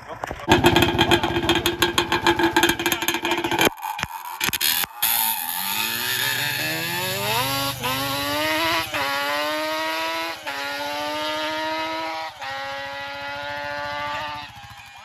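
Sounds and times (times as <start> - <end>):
quad engine accelerating and shifting: 0.0 - 15.0.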